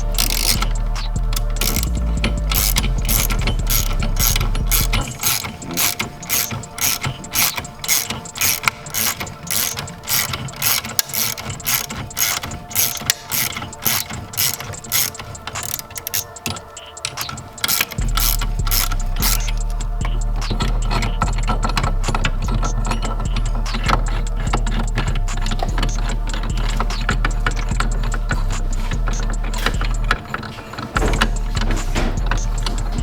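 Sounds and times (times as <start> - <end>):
hand ratchet clicking: 0.0 - 33.0.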